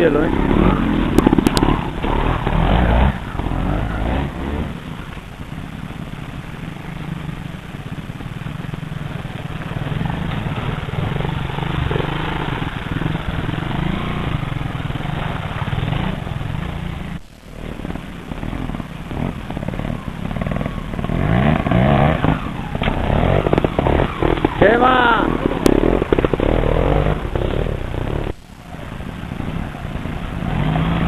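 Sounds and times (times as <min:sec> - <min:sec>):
motorcycle engines at low speed: 0:00.0 - 0:31.0.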